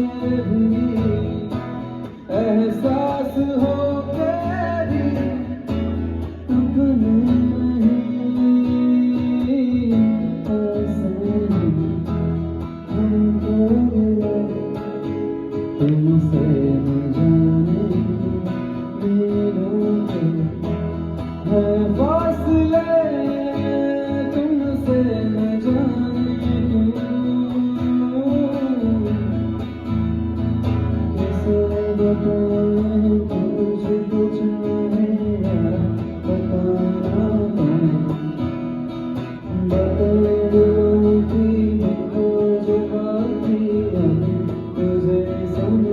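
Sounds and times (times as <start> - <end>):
guitar: 0.0 - 45.9.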